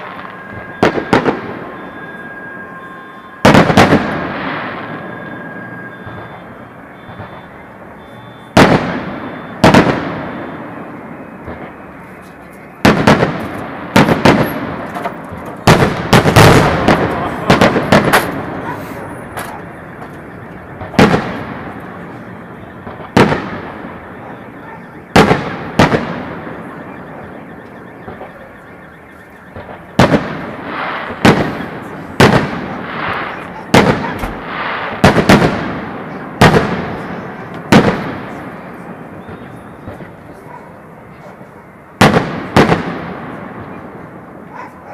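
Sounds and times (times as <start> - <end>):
rolling echo of bangs: 0.0 - 7.5, 8.6 - 12.0, 12.8 - 40.5, 41.9 - 44.5.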